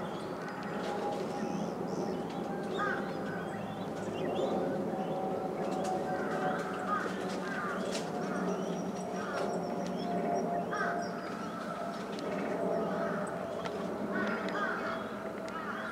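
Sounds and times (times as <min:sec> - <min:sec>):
low hum: 0:00.0 - 0:15.9
steady murmur: 0:00.0 - 0:15.9.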